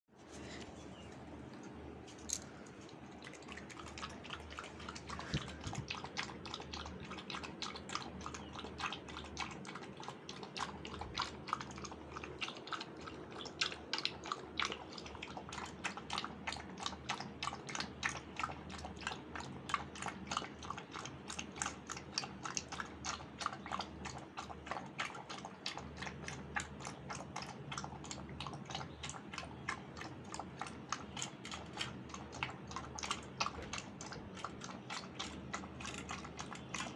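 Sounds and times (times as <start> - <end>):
puppy lapping milk: 2.6 - 36.9.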